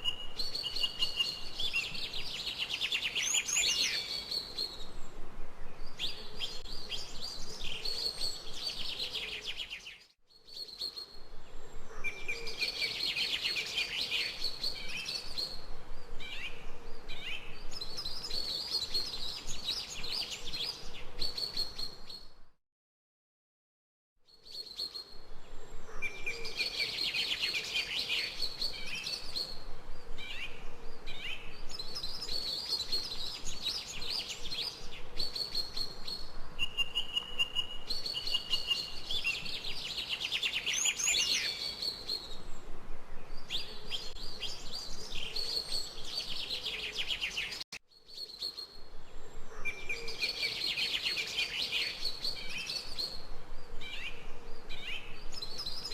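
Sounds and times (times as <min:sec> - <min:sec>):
small birds chirping and trilling: 0:00.0 - 0:05.1, 0:05.7 - 0:22.3, 0:24.3 - 0:42.6, 0:43.2 - 0:55.9.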